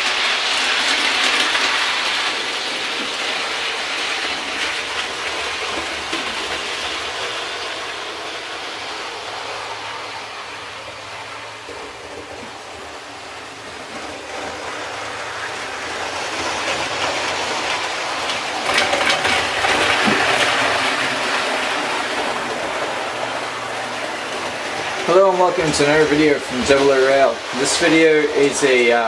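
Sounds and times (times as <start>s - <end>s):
train passing: 0.0s - 29.0s
wheels clicking over rail joints: 0.0s - 29.0s.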